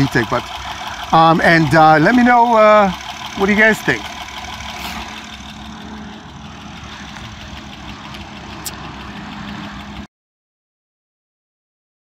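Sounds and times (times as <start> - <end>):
car engine idling: 0.0 - 10.1
loud engine ticking: 0.0 - 10.1.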